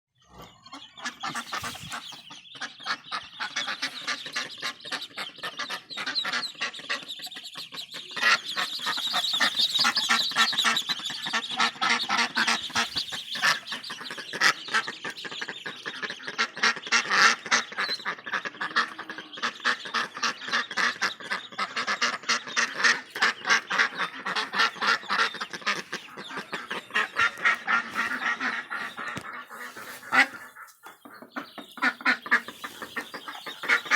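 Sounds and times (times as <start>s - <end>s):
ducks and ducklings calling: 0.2s - 33.9s.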